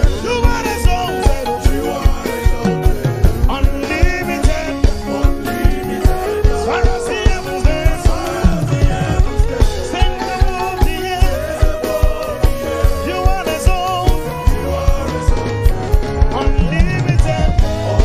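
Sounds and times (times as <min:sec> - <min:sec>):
fast drum beat: 0:00.0 - 0:18.0
live gospel band: 0:00.0 - 0:18.0
man singing into microphone: 0:00.0 - 0:18.0.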